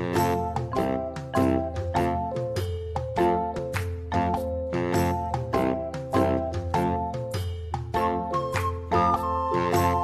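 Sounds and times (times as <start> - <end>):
light background music: 0.0 - 10.0.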